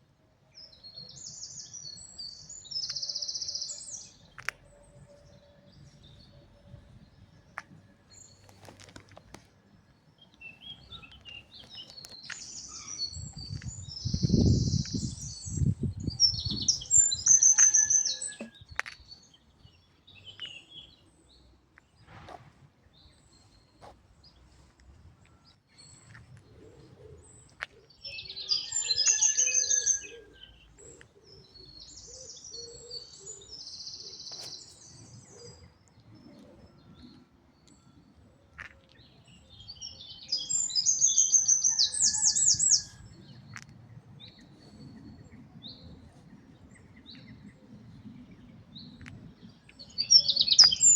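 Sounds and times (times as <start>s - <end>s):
songbird singing: 0.5s - 22.1s, 22.8s - 50.9s.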